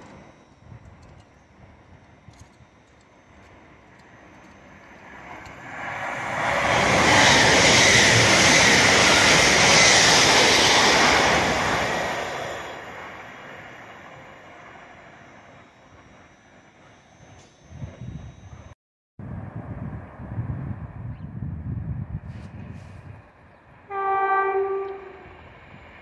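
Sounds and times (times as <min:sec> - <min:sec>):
passenger train passing at speed: 0:00.0 - 0:26.0.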